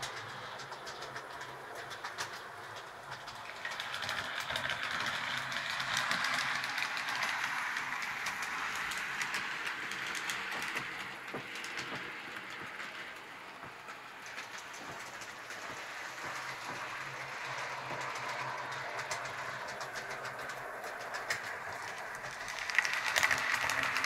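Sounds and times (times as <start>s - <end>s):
model train rolling on track: 0.0s - 24.0s
wheels clicking over rail joints: 0.0s - 24.0s.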